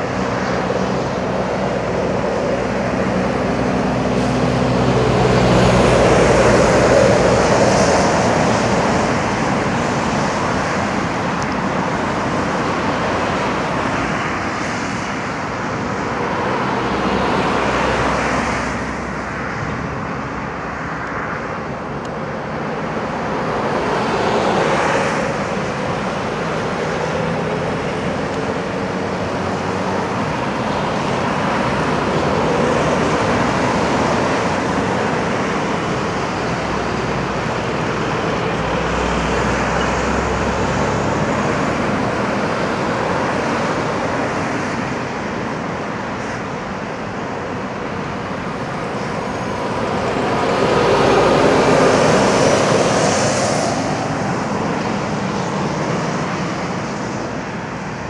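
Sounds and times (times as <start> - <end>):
heavy diesel engines: 0.0 - 58.0.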